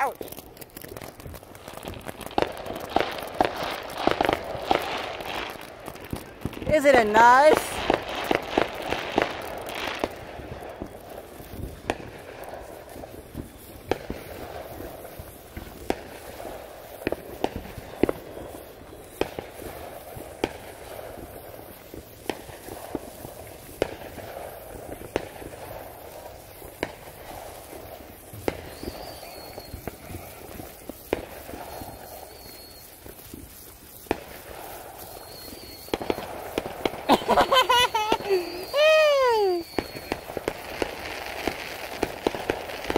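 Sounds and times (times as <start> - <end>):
firework fountain hissing: 0.0 - 42.9
sharp firework cracks: 0.0 - 42.9.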